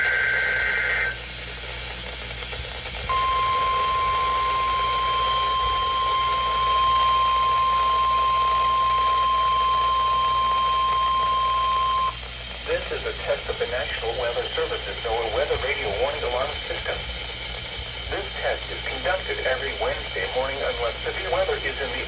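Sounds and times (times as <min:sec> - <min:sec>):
steady alarm tone: 0:00.0 - 0:01.3, 0:02.5 - 0:22.0
radio hiss: 0:00.0 - 0:22.0.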